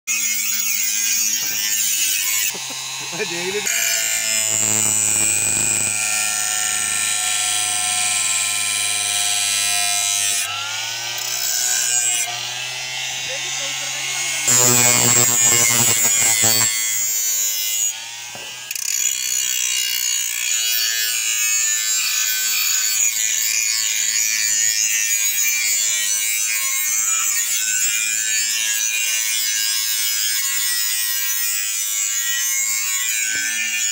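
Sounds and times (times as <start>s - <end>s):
electric grinder sharpening blades: 0.1s - 33.9s.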